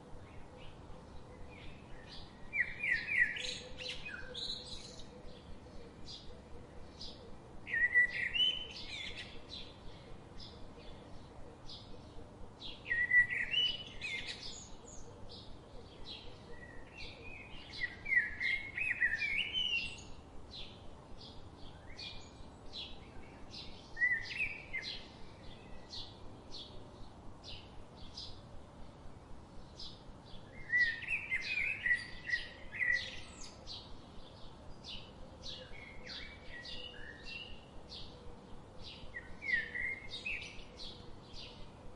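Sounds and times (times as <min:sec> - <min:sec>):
songbirds chirping: 0:00.0 - 0:41.9
bird warbling song: 0:00.2 - 0:28.4, 0:29.6 - 0:41.9.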